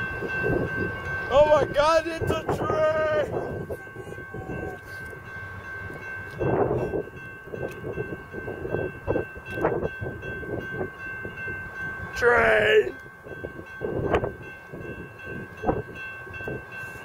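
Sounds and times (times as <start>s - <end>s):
high ringing tone: 0.0s - 17.0s.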